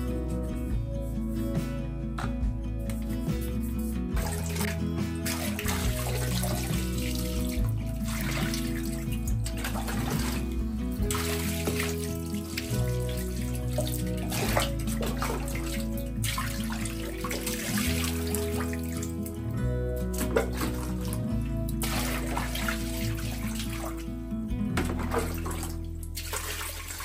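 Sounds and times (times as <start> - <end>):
background music: 0.0 - 27.0
water running and splashing: 4.2 - 19.4, 20.0 - 24.2, 24.8 - 27.0.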